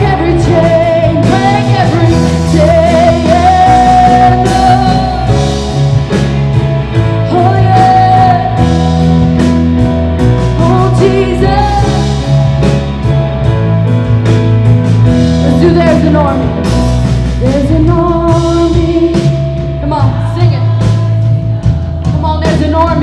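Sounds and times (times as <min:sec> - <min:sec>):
rock band playing praise music: 0:00.0 - 0:23.0.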